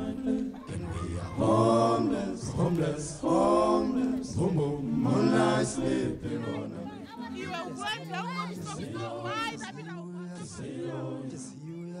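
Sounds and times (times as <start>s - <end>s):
slow vocal chant: 0.0s - 12.0s.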